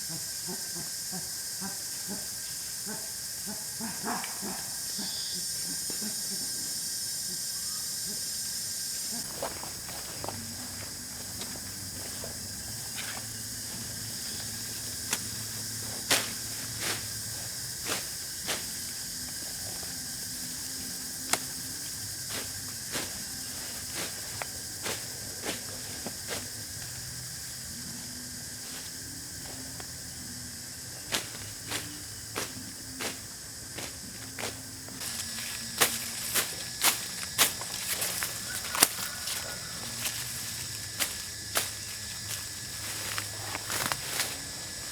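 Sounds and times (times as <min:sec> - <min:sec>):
steady high-pitched hiss: 0:00.0 - 0:44.9.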